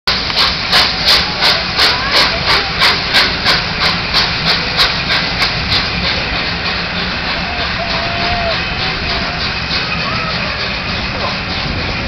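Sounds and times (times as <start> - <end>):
steam hissing: 0.1 - 12.0
steam locomotive chuffing: 0.1 - 12.0.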